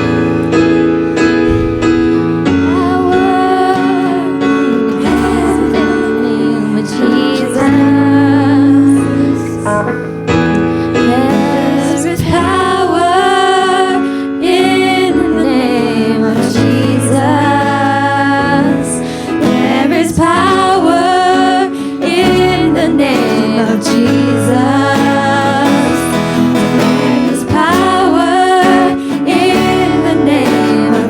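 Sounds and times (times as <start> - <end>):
piano accompaniment: 0.0 - 31.0
person singing: 1.6 - 31.0.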